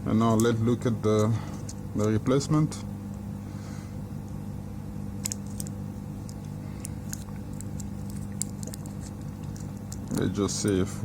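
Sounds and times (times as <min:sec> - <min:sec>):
low hum of bench equipment: 0:00.0 - 0:11.0.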